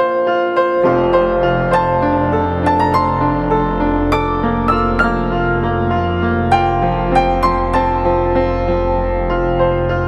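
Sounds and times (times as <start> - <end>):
soft piano and keyboard music: 0.0 - 10.0.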